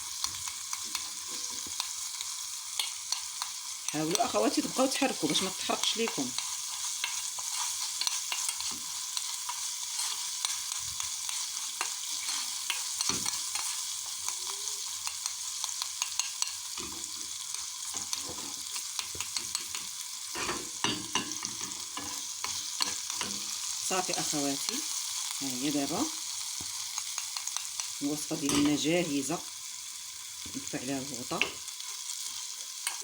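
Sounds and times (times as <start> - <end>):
garlic sizzling in oil: 0.0 - 33.0.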